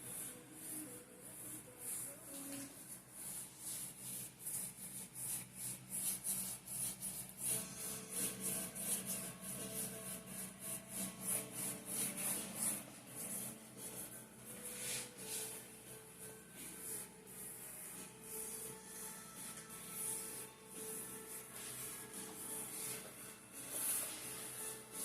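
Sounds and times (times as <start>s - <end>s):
brush stroking over canvas: 0.0s - 25.0s
soft background music: 0.0s - 25.0s.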